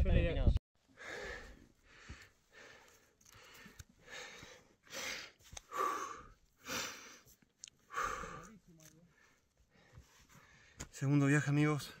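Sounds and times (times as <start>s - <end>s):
person breathing hard: 0.9s - 10.8s.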